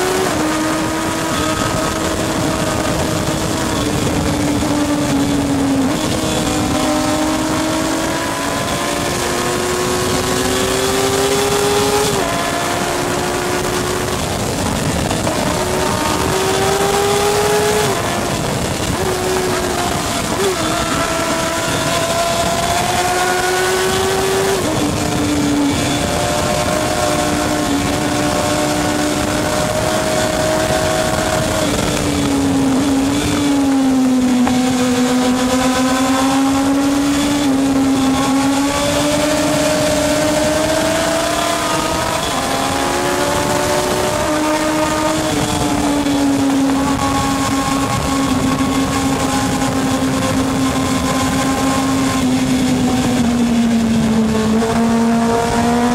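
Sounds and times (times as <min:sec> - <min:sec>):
racing motorcycle engines revving: 0:00.0 - 0:55.9.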